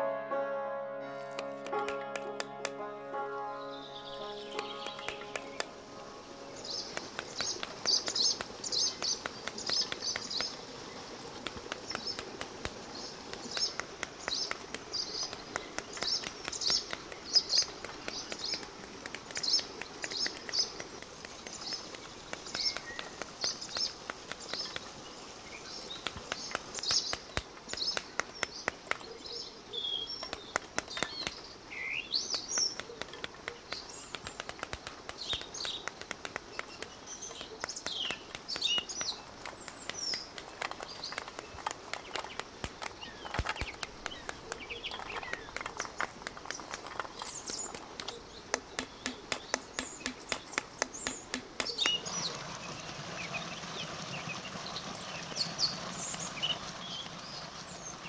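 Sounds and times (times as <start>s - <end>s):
birds chirping: 1.2s - 58.0s
falling bird calls: 3.5s - 58.0s.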